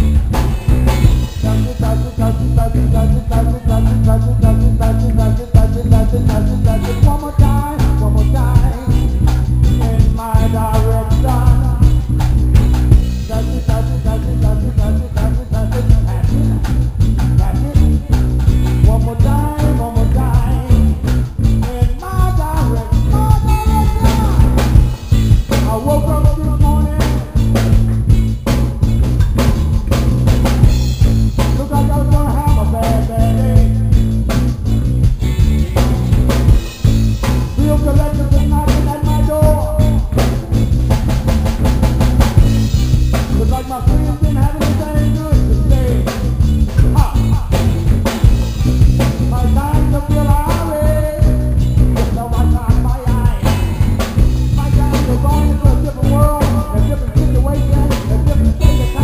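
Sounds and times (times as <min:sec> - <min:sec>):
electric bass line: 0:00.0 - 0:59.0
reggae band playing: 0:00.0 - 0:59.0.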